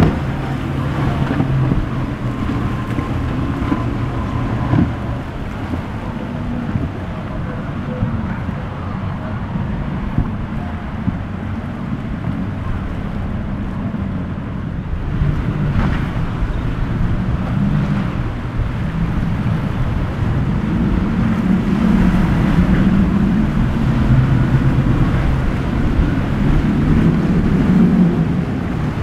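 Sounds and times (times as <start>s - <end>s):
powerboat engines droning: 0.0s - 29.0s
surf: 0.0s - 29.0s
wind noise on microphone: 0.0s - 29.0s.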